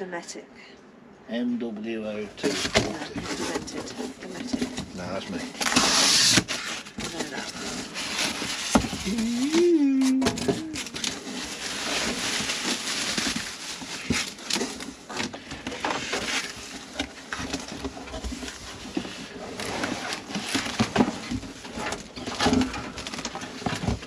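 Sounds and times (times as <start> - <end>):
cardboard and packing rustling: 1.9 - 24.0.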